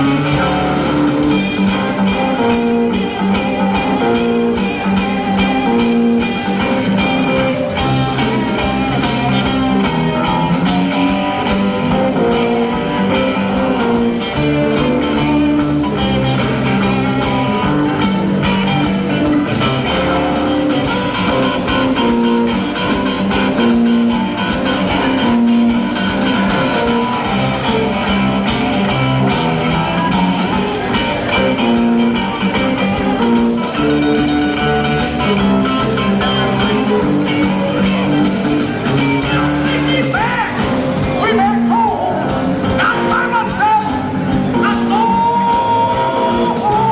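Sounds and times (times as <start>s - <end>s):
electric guitar: 0.0s - 46.9s
live rock band playing: 0.0s - 46.9s.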